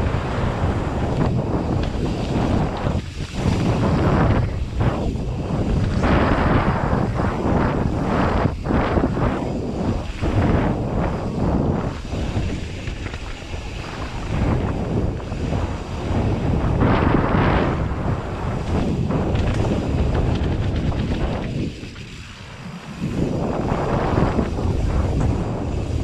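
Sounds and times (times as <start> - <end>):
tyres rumbling over rough ground: 0.0 - 26.0
wind on microphone: 0.0 - 26.0.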